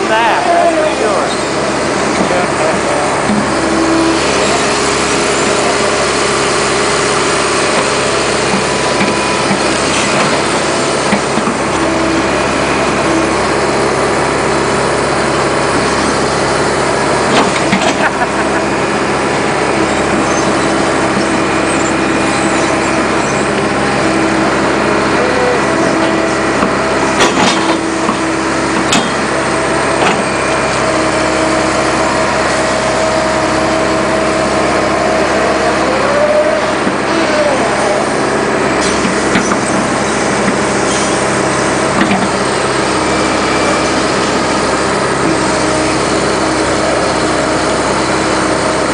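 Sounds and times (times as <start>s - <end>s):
excavator diesel engine running: 0.0s - 48.9s
hydraulic whine: 0.0s - 48.9s.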